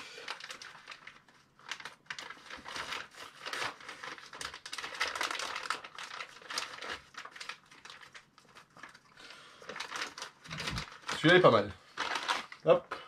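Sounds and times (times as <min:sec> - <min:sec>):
cable ties rustling and clicking: 0:00.2 - 0:13.0.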